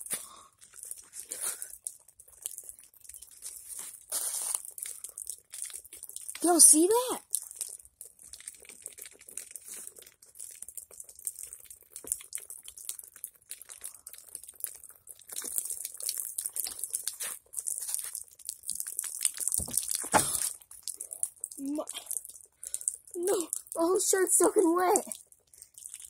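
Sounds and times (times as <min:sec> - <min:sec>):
plastic water bottle crinkling: 0:00.0 - 0:26.0.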